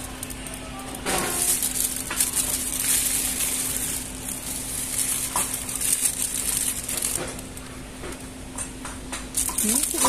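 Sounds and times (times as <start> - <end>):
plastic packaging crinkling: 0.0 - 8.4, 9.2 - 10.0
steady low hum: 0.0 - 10.0.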